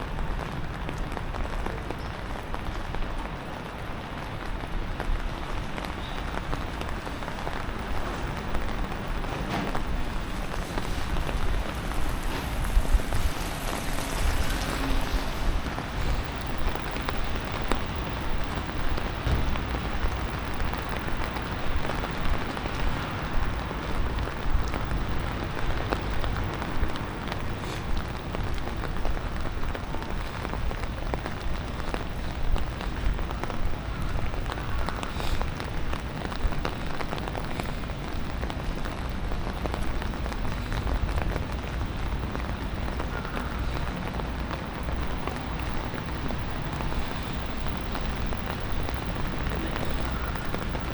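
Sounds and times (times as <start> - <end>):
steady rain patter: 0.0 - 50.9.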